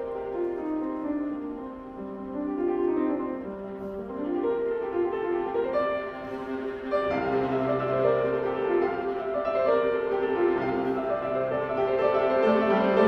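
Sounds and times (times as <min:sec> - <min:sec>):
piano accompaniment: 0:00.0 - 0:13.0
viola melody: 0:00.0 - 0:13.0.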